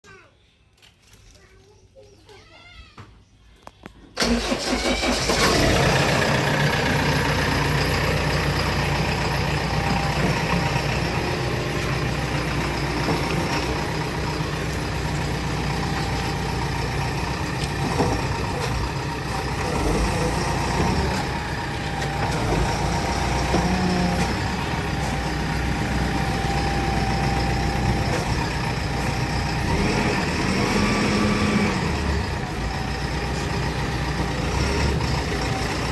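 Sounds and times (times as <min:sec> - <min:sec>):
heavy diesel engine running: 0:04.2 - 0:35.9.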